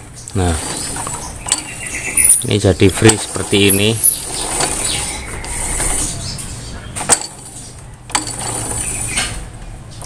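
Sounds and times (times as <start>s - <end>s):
clutch and gear clinking and whirring: 0.6s - 10.0s.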